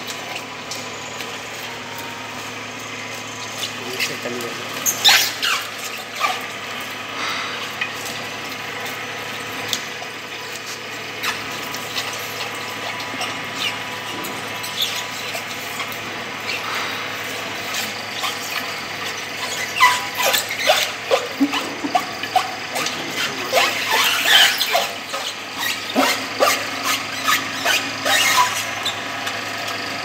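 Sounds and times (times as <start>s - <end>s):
oil expeller motor humming: 0.0s - 30.0s
short squeaks: 0.0s - 30.0s.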